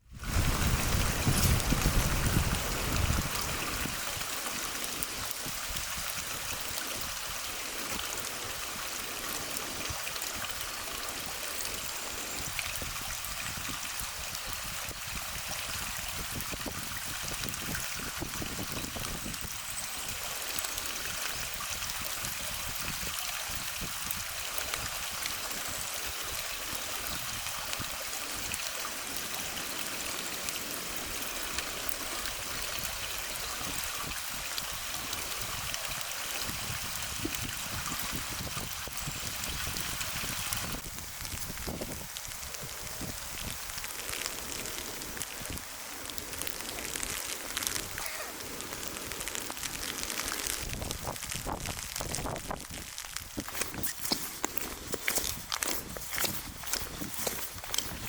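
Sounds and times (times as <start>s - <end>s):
rushing running water: 0.0s - 58.0s.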